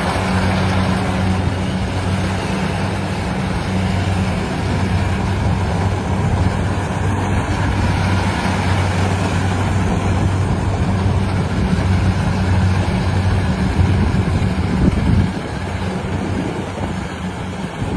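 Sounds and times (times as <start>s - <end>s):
harvester engine running: 0.0s - 17.9s.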